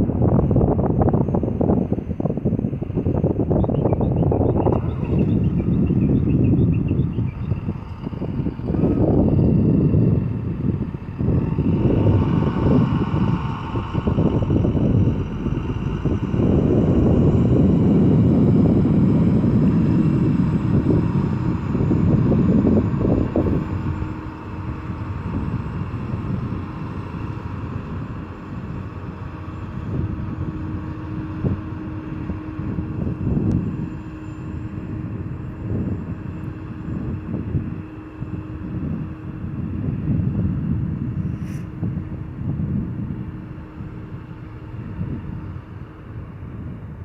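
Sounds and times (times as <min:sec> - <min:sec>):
diesel engine of heavy machinery: 0:00.0 - 0:47.0.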